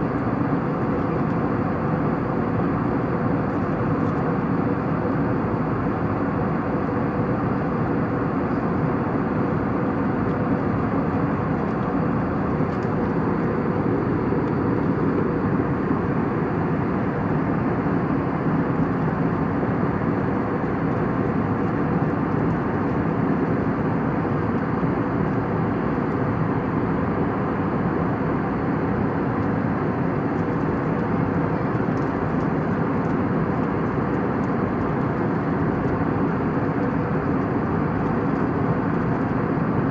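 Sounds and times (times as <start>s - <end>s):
aircraft engines and airflow: 0.0s - 39.9s.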